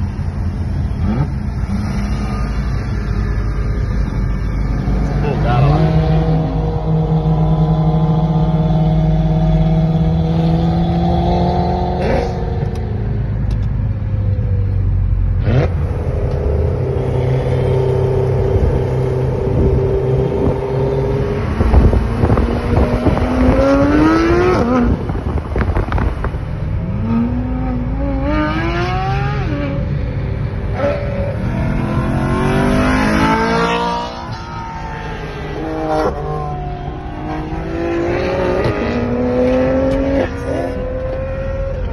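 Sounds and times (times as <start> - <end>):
engine and road rumble: 0.0 - 41.9
sports car engines accelerating: 0.0 - 41.9.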